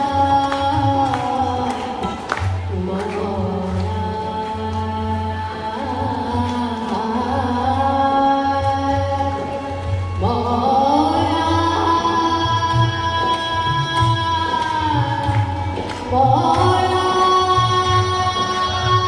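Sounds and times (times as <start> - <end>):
woman singing into a microphone: 0.0 - 19.0.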